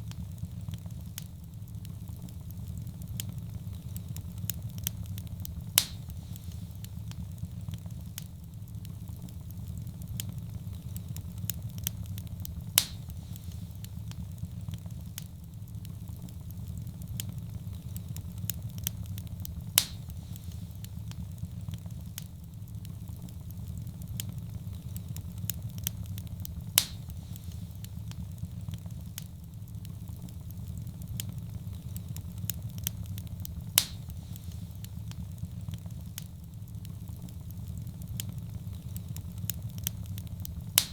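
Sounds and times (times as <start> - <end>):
fire crackling in fireplace: 0.0 - 40.9
sharp fire pops: 0.0 - 40.9.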